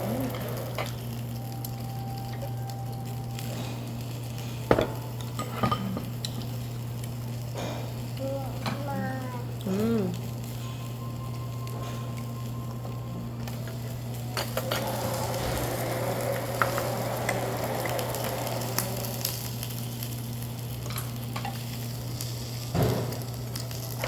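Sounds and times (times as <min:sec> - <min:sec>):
beef sizzling on a grill: 0:00.0 - 0:24.0.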